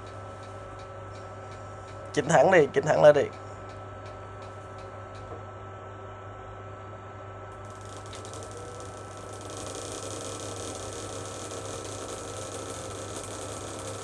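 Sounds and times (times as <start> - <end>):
suction fan motor humming: 0.0 - 5.3, 7.6 - 14.0.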